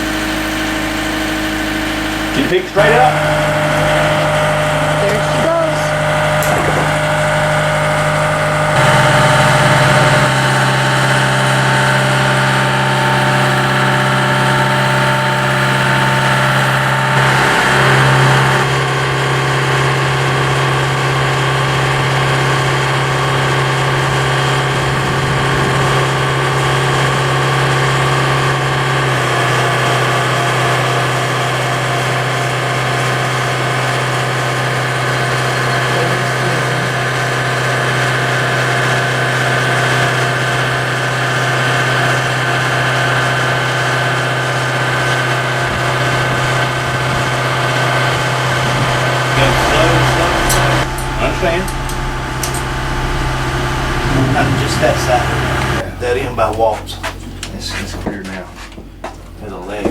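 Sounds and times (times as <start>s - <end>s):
machine drone: 0.0s - 56.9s.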